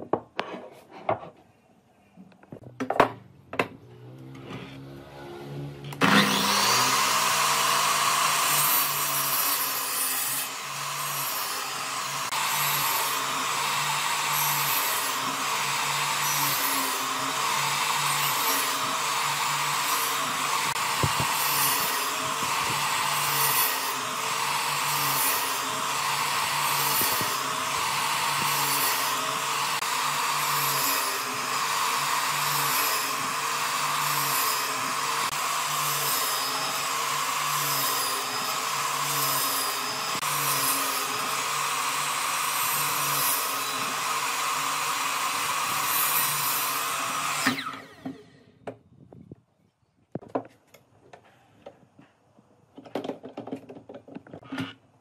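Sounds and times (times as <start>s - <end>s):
miter saw cutting wood: 3.8s - 48.5s.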